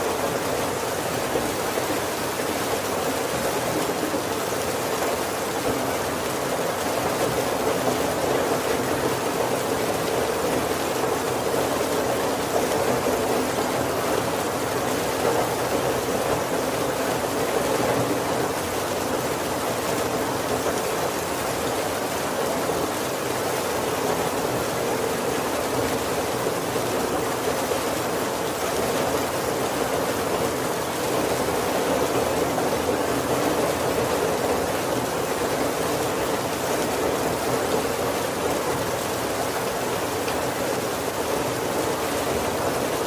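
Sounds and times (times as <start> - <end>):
heavy rain on a wooden roof: 0.0 - 43.0.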